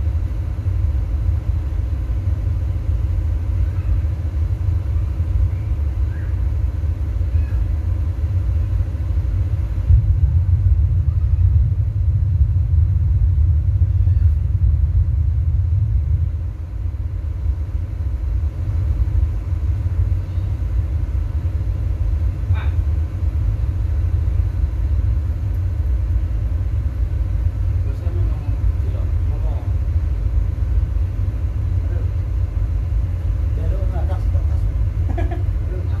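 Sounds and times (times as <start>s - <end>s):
deep rumble: 0.0s - 36.0s.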